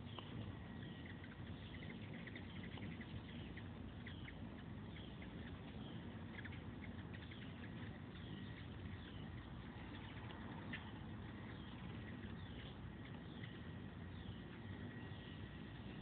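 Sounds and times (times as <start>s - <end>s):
hummingbirds squeaking and chipping: 0.0s - 16.0s
low background rush: 0.0s - 16.0s.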